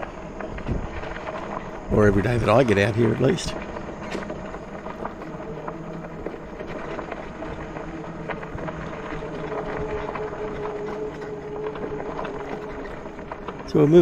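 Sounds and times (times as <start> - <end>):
wind on microphone: 0.0 - 13.7
electric motor hum: 0.0 - 14.0
small rattles: 0.0 - 14.0
tyres rolling over track: 0.0 - 14.0.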